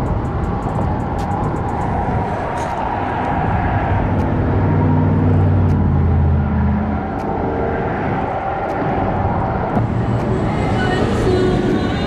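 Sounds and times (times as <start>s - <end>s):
engine passing by: 0.0s - 12.0s
steady rushing noise: 0.0s - 12.0s.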